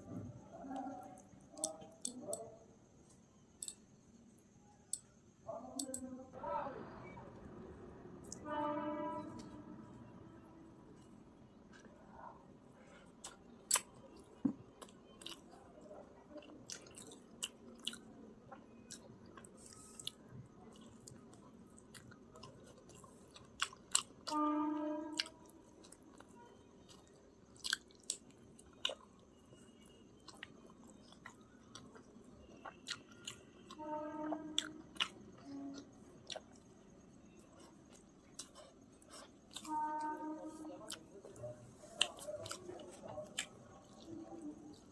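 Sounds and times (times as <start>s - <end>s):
person chewing food: 0.7s - 3.8s, 10.9s - 24.4s, 25.1s - 44.9s.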